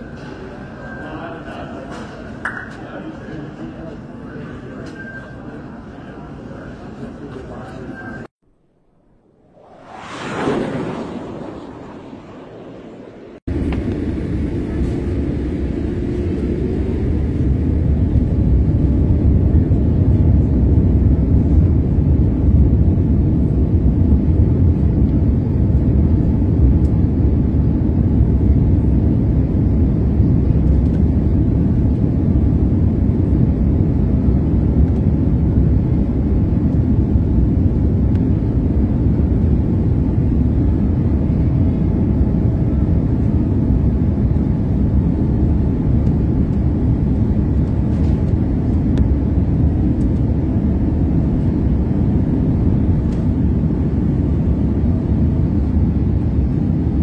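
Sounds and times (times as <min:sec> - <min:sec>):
jet engine rumble in cabin: 0:00.0 - 0:08.4, 0:09.1 - 0:57.0.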